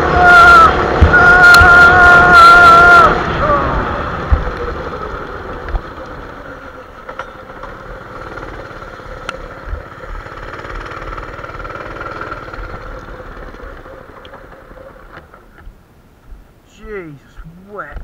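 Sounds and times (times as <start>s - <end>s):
trike motor running: 0.0s - 15.6s
ground rumble: 0.0s - 18.0s.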